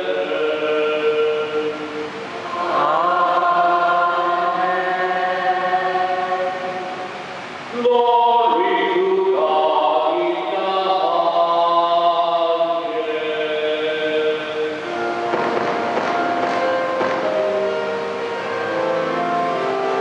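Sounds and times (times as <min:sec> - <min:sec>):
liturgical chant: 0:00.0 - 0:20.0.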